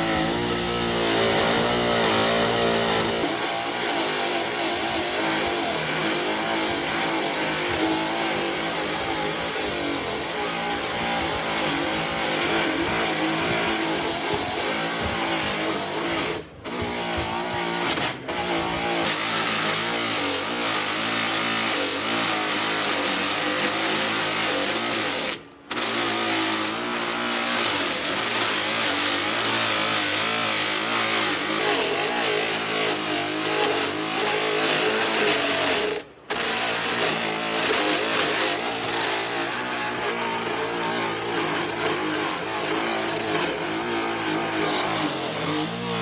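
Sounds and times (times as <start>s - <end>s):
power tool motor cutting wood: 0.0s - 46.0s.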